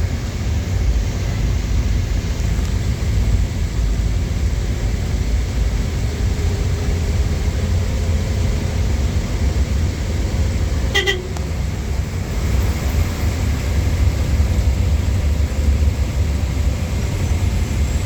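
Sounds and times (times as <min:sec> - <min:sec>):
lorry engine and road rumble: 0:00.0 - 0:18.0.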